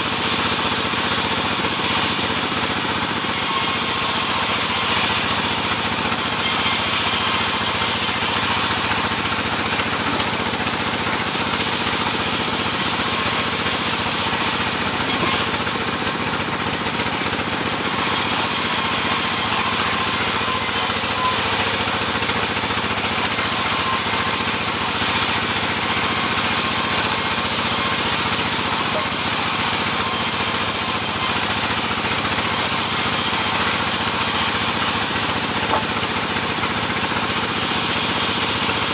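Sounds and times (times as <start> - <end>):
sawmill saw and motor running: 0.0 - 38.9.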